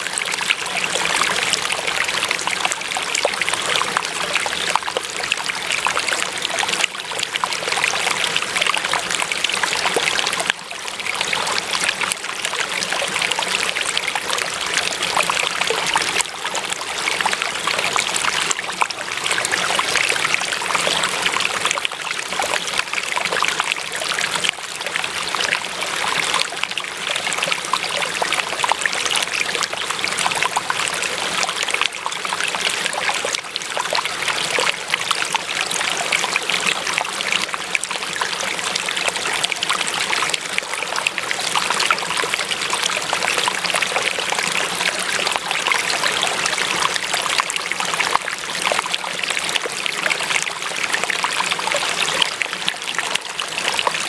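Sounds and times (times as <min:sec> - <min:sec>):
small stream trickling: 0:00.0 - 0:54.0.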